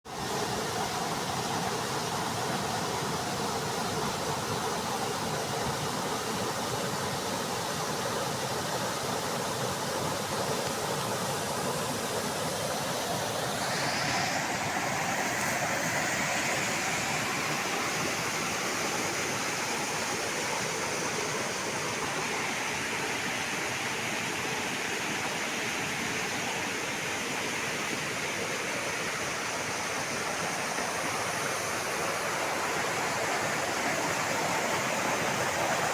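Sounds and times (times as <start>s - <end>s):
running water rushing: 0.1s - 35.9s.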